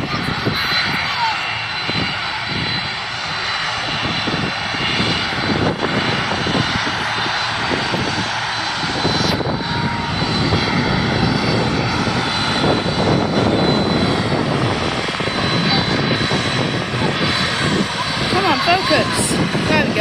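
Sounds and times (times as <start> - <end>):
jet engine high whine: 0.0 - 20.0
jet engines rumbling: 0.0 - 20.0.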